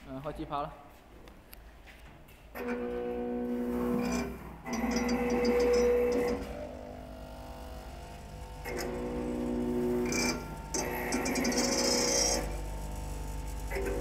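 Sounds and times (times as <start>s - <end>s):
vibratory feed trays humming: 2.6s - 14.0s.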